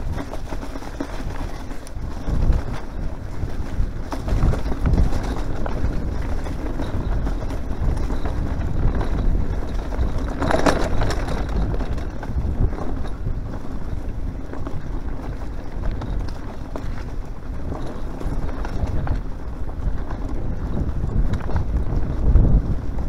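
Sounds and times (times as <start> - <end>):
bike rattle: 0.0 - 23.0
bike tyres rumbling: 0.0 - 23.0
wind buffeting microphone: 0.0 - 23.0.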